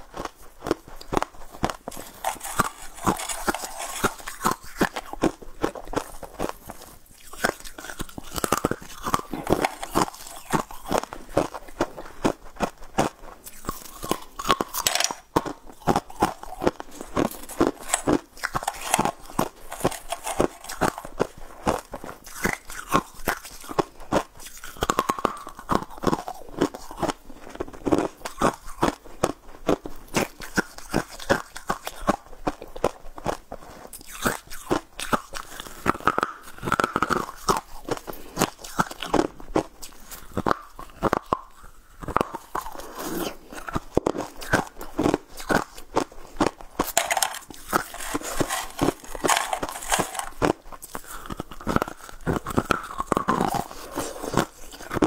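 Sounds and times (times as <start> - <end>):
candy crunching: 0.0 - 55.0.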